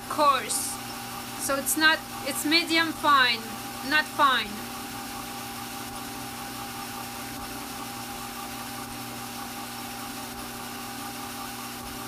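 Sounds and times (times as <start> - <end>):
drum carder motor hum: 0.0 - 12.0.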